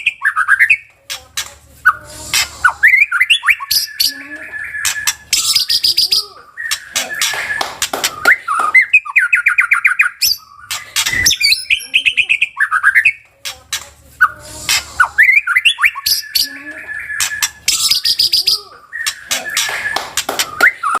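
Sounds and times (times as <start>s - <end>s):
songbird singing varied song: 1.9s - 13.3s, 14.2s - 21.0s.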